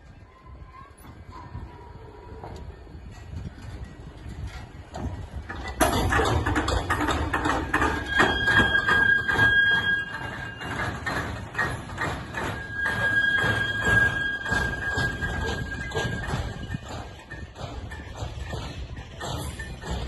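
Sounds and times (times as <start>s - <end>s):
railway wagons rumbling: 0.0s - 20.0s
steel wheels squealing on rail: 0.0s - 20.0s
wagon knocks and clanks: 3.1s - 20.0s.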